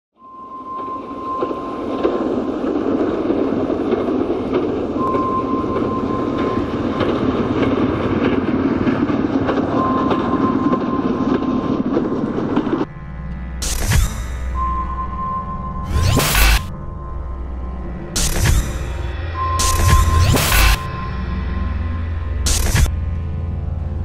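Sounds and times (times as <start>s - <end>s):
train rumbling on track: 0.2s - 24.0s.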